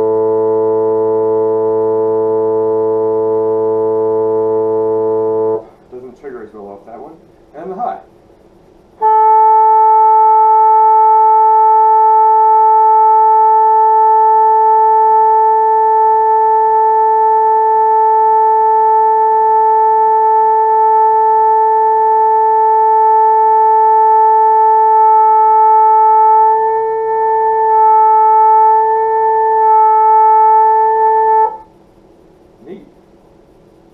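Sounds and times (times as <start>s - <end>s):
bassoon holding long note: 0.0s - 5.8s, 9.0s - 31.7s.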